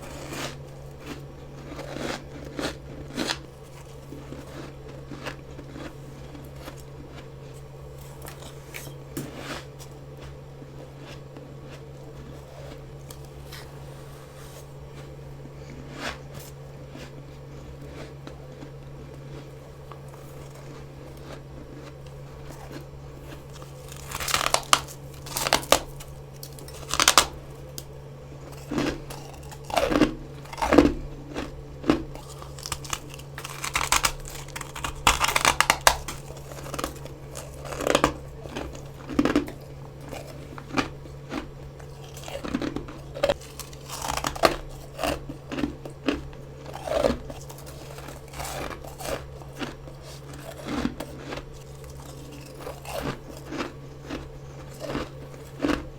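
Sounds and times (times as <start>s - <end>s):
crunching and chewing frost: 0.0s - 55.9s
steady low hum: 0.0s - 55.9s.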